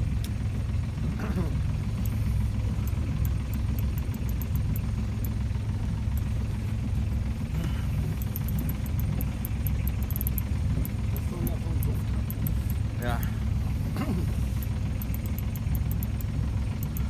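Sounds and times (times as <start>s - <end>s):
boat motor running at low revs: 0.0s - 17.0s.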